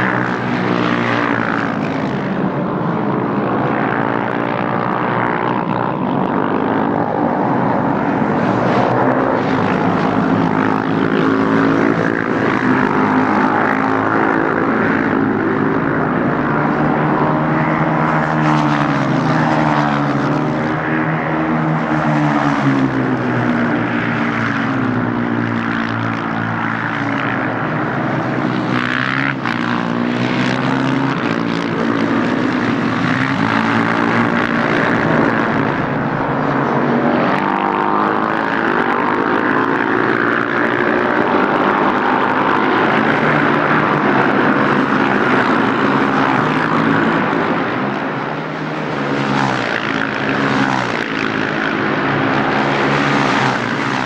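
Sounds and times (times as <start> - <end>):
motorcycle engines racing: 0.0 - 54.0.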